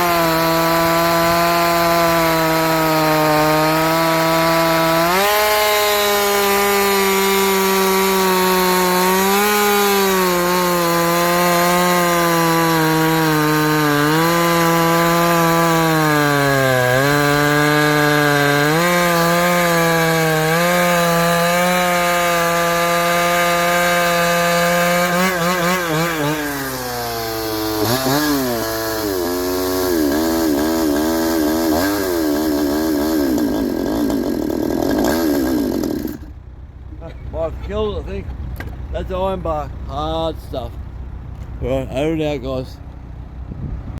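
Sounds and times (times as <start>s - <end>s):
chainsaw cutting hardwood: 0.0s - 36.5s.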